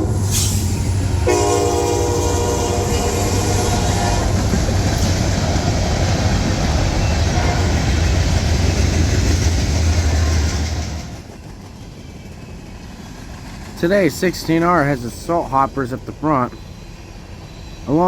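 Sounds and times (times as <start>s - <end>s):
freight train rumbling: 0.0s - 18.0s.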